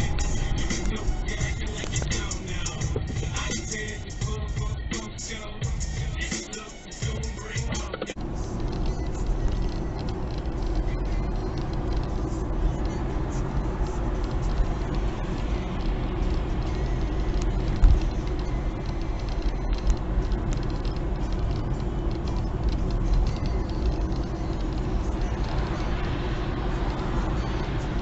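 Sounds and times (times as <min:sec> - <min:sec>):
vehicle road and engine rumble: 0:00.0 - 0:28.0.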